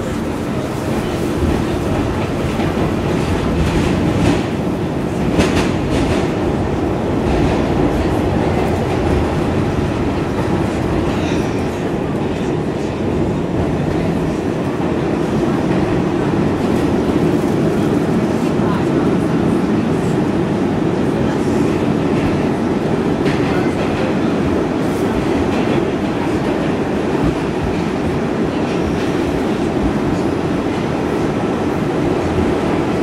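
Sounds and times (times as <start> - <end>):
rail joints clickety-clack: 0.0 - 33.0
subway wheels rumbling on rails: 0.0 - 33.0.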